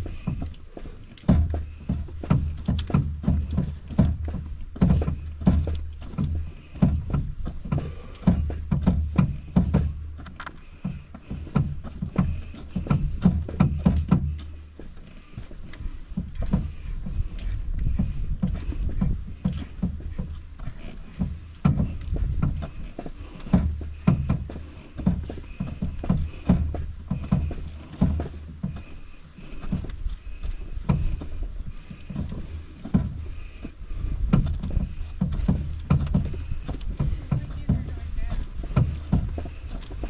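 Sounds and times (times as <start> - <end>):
footsteps on dirt trail: 0.0 - 40.0
sharp clicks and knocks: 0.0 - 40.0.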